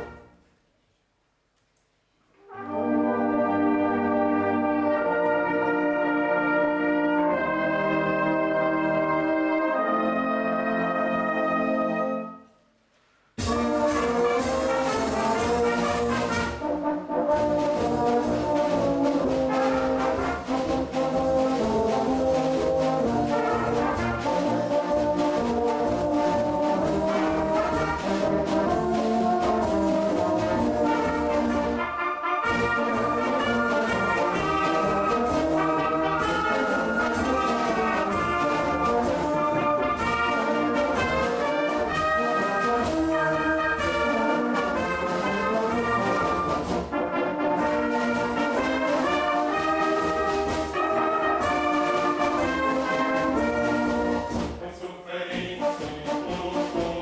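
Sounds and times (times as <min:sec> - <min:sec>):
brass band with flutes playing: 0:00.0 - 0:00.4, 0:02.4 - 0:12.6, 0:13.4 - 0:57.0.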